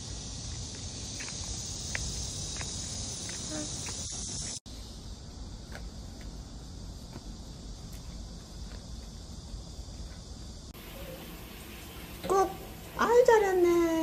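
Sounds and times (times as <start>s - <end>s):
cicadas chorus: 0.0s - 14.0s.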